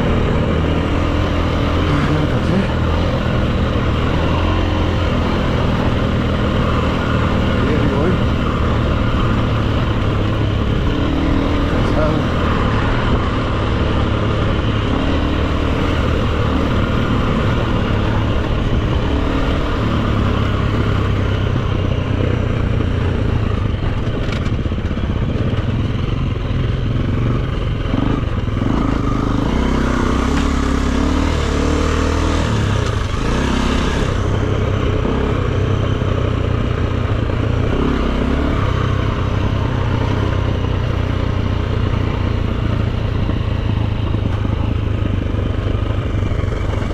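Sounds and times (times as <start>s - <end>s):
dirt bike engine revving: 0.0s - 21.8s, 27.0s - 35.8s, 37.4s - 46.9s.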